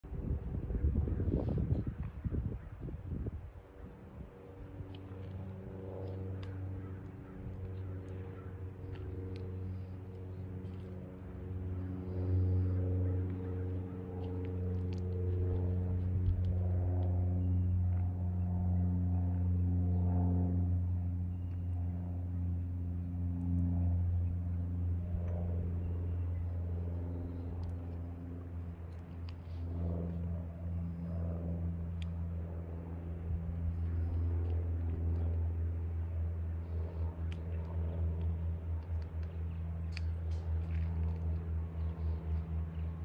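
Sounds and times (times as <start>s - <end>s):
low engine hum: 0.0s - 43.0s.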